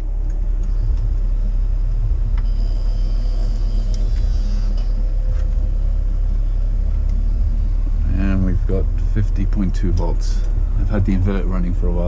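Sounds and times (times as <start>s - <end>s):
faint steady hum: 0.0s - 12.0s
steady low rumble: 0.0s - 12.0s.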